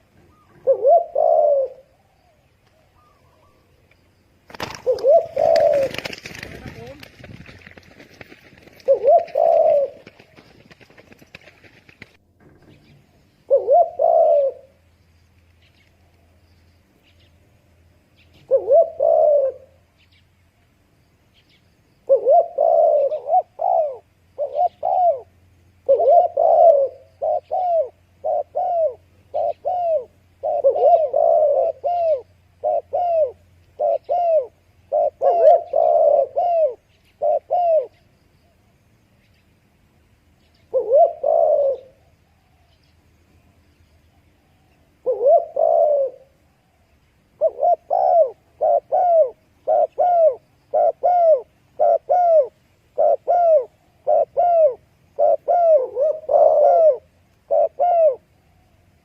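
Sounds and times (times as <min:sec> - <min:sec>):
dove cooing: 0:00.0 - 0:03.8, 0:04.5 - 0:14.9, 0:18.2 - 0:20.2, 0:21.4 - 0:38.7, 0:40.5 - 0:59.0.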